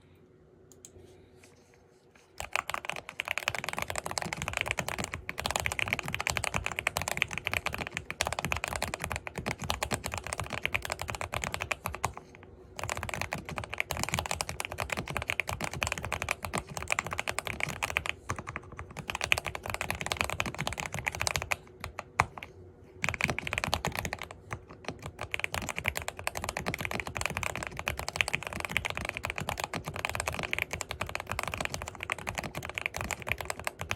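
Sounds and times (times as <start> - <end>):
fast typing on mechanical keyboard: 2.4 - 33.9.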